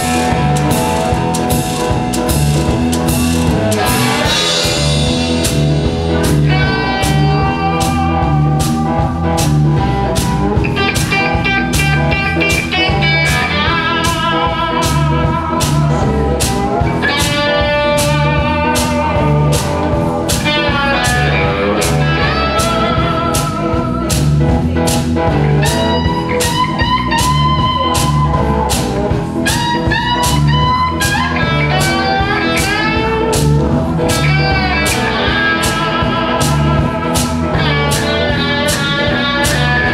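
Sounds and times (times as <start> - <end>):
amplified guitars with sliding notes: 0.0 - 39.9
drum kit beat: 0.0 - 39.9.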